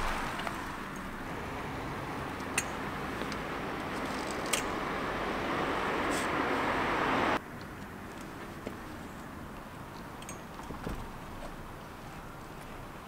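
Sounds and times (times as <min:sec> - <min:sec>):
street noise hiss: 0:00.0 - 0:13.0.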